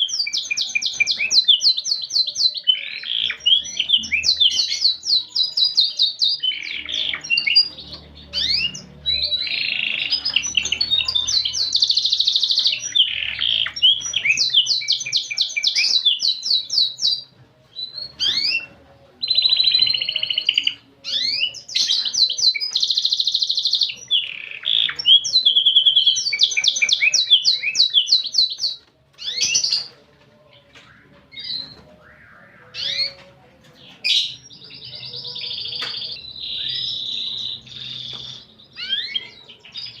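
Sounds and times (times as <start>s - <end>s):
canary singing: 0.0s - 40.0s.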